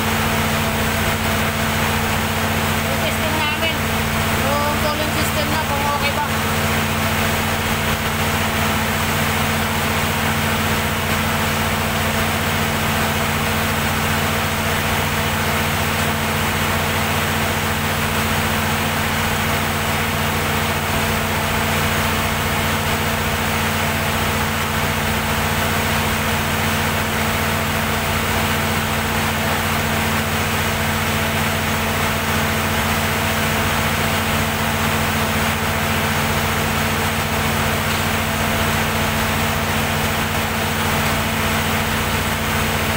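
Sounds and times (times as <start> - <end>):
diesel generator running: 0.0 - 42.9.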